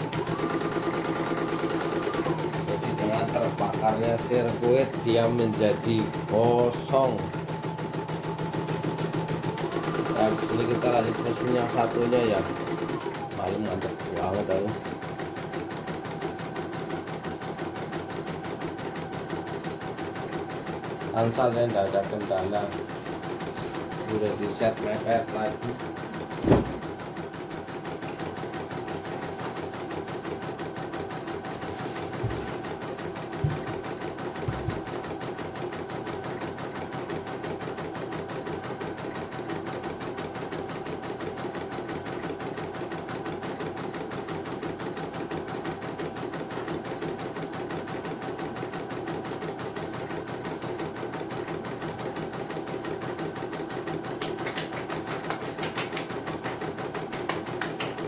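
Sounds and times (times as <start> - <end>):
embroidery machine stitching: 0.0 - 58.0.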